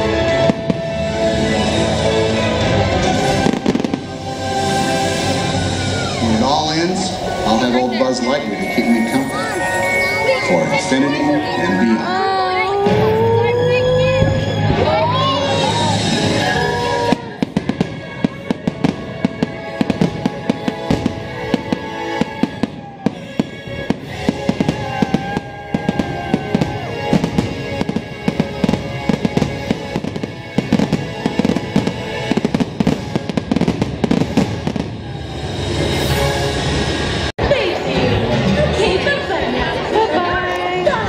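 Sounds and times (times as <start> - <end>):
fireworks bursting: 0.0 - 37.3
music playing: 0.0 - 41.0.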